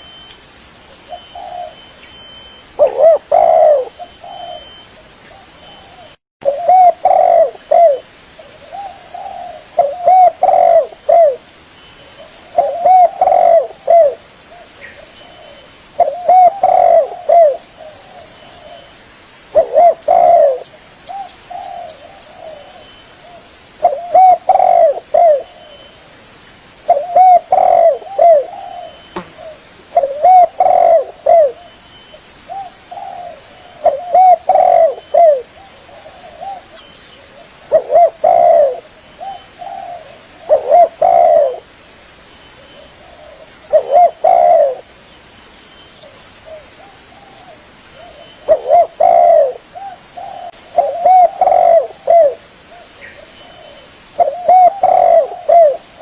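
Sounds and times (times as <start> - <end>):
dove cooing: 1.0 - 11.5, 12.1 - 18.9, 19.5 - 25.9, 26.9 - 31.8, 32.5 - 41.7, 42.6 - 44.9, 46.0 - 56.0.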